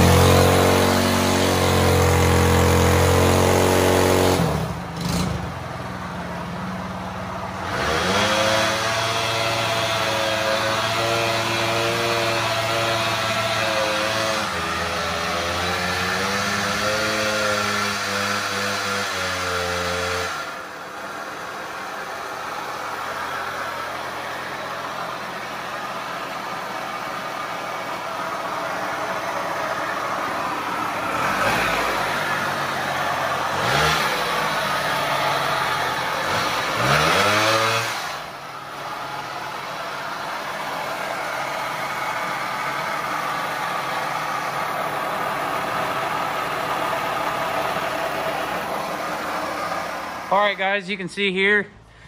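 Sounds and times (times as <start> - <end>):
two-stroke quad engine revving: 0.0 - 50.8.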